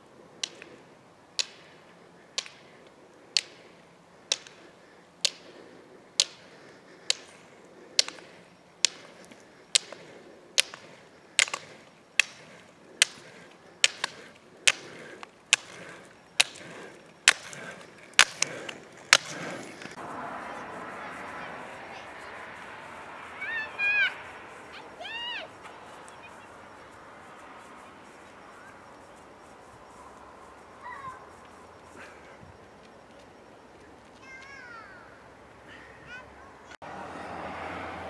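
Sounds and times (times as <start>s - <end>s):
ski poles clicking on asphalt: 0.1s - 35.0s.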